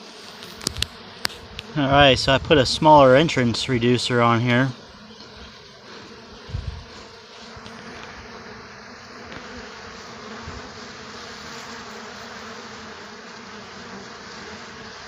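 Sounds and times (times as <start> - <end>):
bees buzzing at a hive: 0.0 - 15.0.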